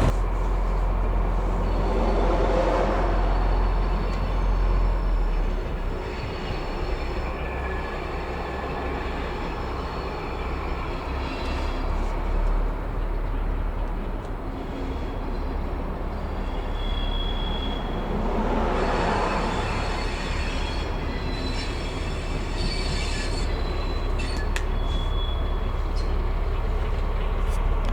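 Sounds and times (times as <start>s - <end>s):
high wheel squeal: 0.0s - 12.5s, 14.6s - 26.7s
diesel locomotive rumbling: 0.0s - 27.9s.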